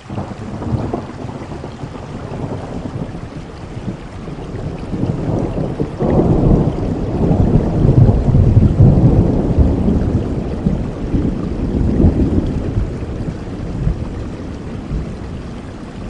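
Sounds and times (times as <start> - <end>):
steady rain: 0.0 - 16.0
thunder rumbling: 0.1 - 16.0.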